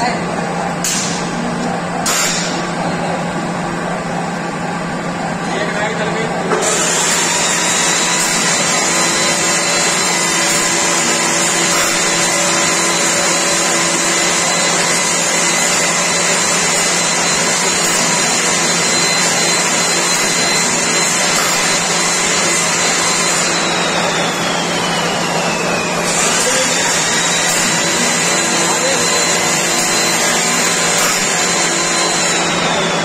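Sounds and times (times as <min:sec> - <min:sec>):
machine mechanical whine: 0:00.1 - 0:33.0.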